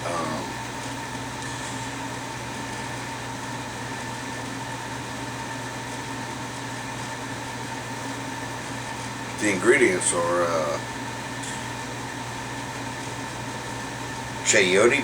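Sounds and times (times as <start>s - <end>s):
mechanical room hum: 0.0s - 15.0s.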